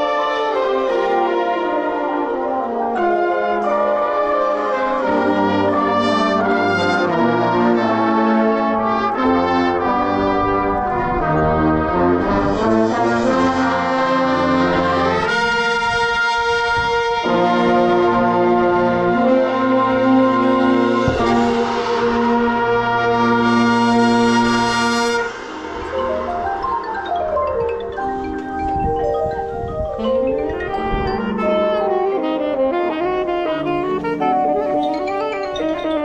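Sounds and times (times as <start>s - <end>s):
brass section playing chords: 0.0s - 36.0s.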